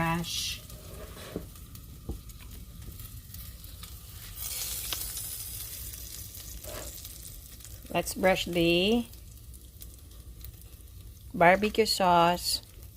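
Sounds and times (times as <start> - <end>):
pork ribs sizzling: 0.0 - 12.9.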